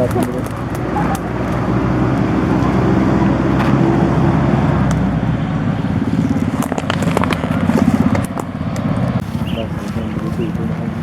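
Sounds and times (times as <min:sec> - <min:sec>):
engine running with fast pulsing: 0:00.0 - 0:11.0.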